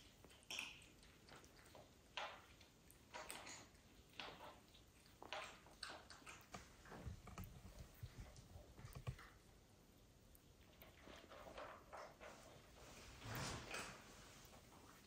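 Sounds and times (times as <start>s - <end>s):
cat licking: 0.0s - 12.7s.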